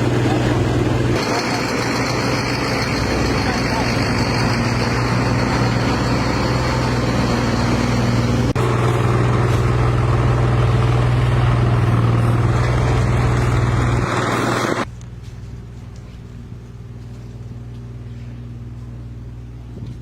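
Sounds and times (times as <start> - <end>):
heavy machinery engine humming: 0.0 - 20.0.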